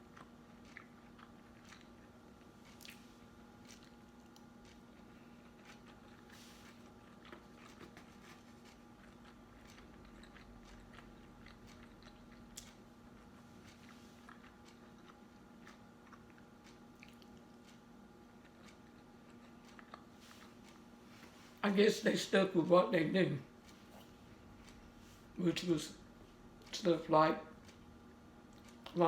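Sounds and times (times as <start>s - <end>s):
chewing and crunching food: 0.0s - 21.6s, 23.2s - 29.0s
steady low hum: 0.0s - 29.0s.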